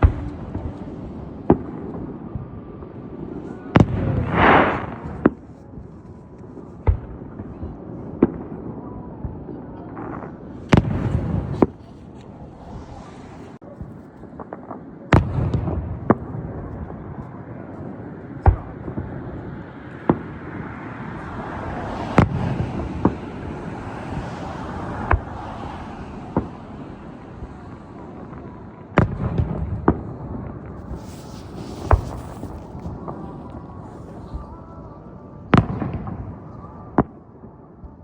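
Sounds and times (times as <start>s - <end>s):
firework bangs: 0.0s - 5.9s, 10.0s - 17.2s, 17.9s - 34.7s, 35.4s - 37.2s
rumble and crackle of explosions: 0.0s - 38.0s.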